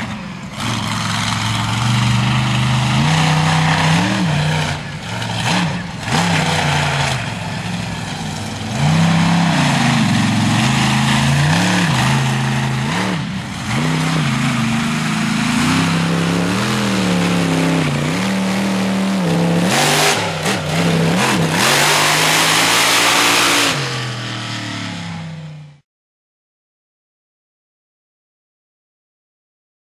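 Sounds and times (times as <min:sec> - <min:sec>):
monster truck engine revving: 0:00.0 - 0:25.8.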